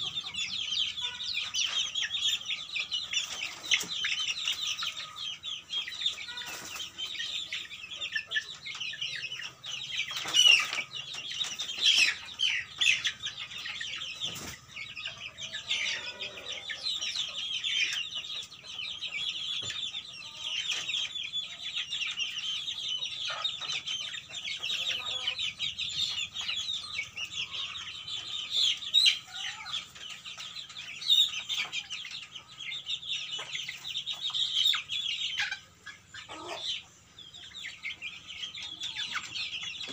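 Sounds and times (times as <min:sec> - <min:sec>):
chickens clucking and calling: 0:00.0 - 0:39.9.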